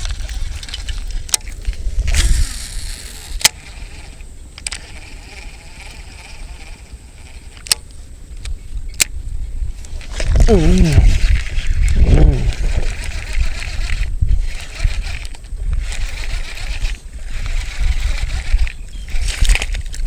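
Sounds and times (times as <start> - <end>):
wind buffeting microphone: 0.0 - 5.0, 8.2 - 20.0.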